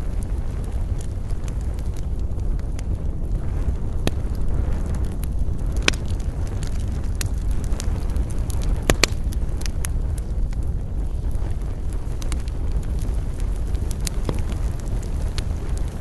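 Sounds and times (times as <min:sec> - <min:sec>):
campfire crackling: 0:00.0 - 0:16.0
fire popping: 0:00.0 - 0:16.0
low wind rumble: 0:00.0 - 0:16.0.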